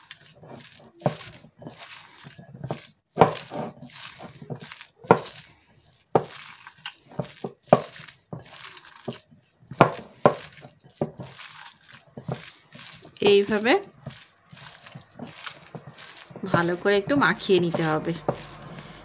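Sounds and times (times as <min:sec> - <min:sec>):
hand squeezing wet paste: 0:00.0 - 0:19.0.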